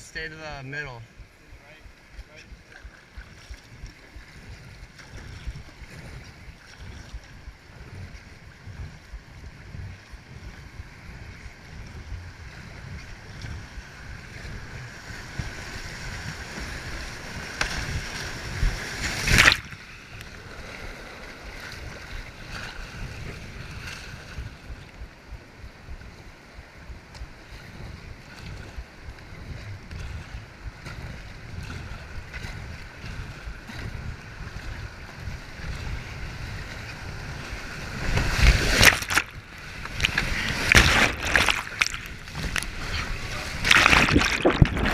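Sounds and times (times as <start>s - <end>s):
wind buffeting microphone: 1.0s - 44.9s.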